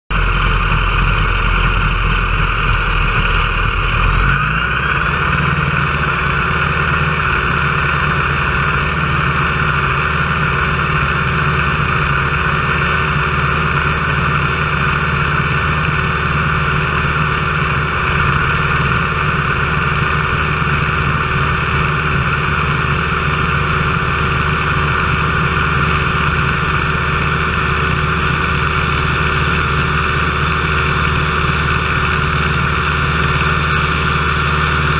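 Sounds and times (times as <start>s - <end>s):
radial aircraft engine and propeller: 0.1s - 34.9s.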